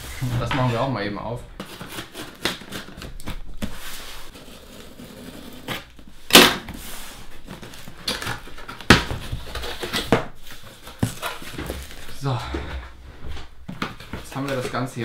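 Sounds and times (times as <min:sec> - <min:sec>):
cardboard rustling and scraping: 0:00.0 - 0:15.0.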